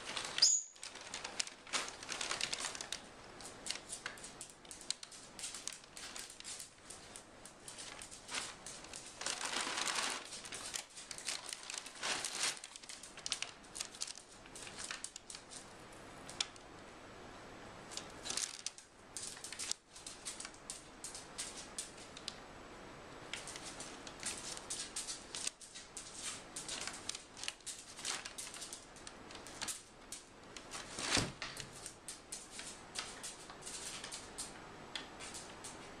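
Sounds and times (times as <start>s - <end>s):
paper bags crinkling: 0.0s - 15.7s, 17.9s - 20.6s, 23.4s - 34.4s.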